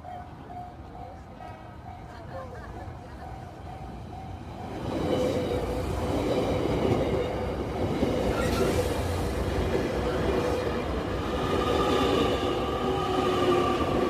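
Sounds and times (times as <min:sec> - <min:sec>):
steady train tones: 0:00.0 - 0:14.0
train wheels rumbling on rails: 0:00.0 - 0:14.0.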